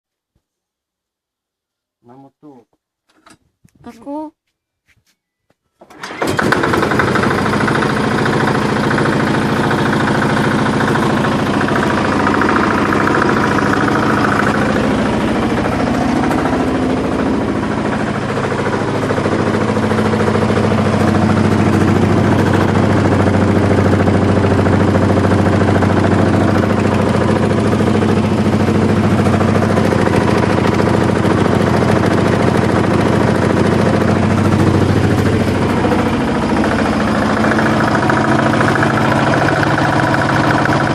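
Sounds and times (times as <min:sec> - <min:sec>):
diesel engine idling: 0:06.0 - 0:40.9.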